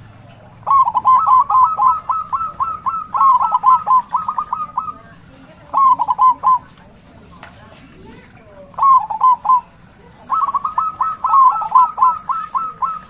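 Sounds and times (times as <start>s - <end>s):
dove cooing: 0.0s - 6.8s, 8.7s - 13.0s.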